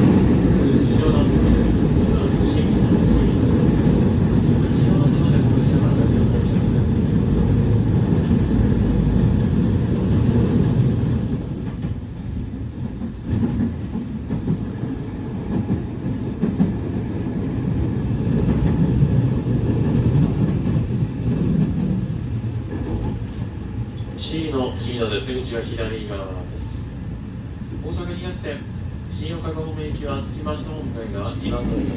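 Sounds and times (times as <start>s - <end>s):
electric train rumbling on track: 0.0s - 31.9s.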